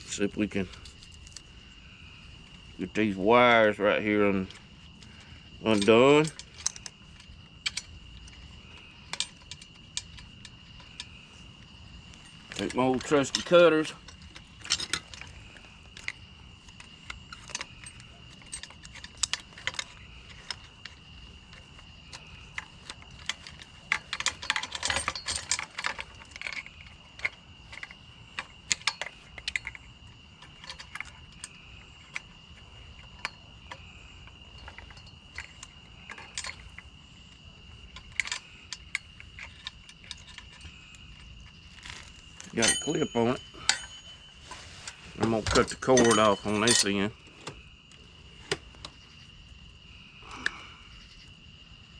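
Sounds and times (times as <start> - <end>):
metal parts clinking: 3.4 - 11.3, 12.0 - 37.0, 37.8 - 47.6.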